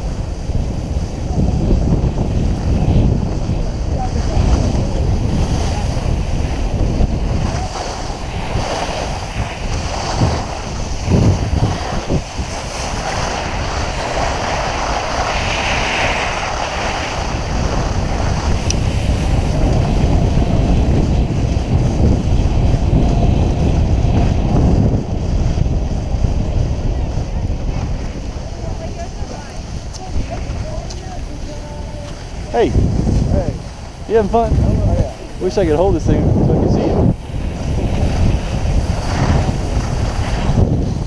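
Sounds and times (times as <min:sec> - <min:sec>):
skis sliding on snow: 0:00.0 - 0:41.0
wind buffeting microphone: 0:00.0 - 0:41.0.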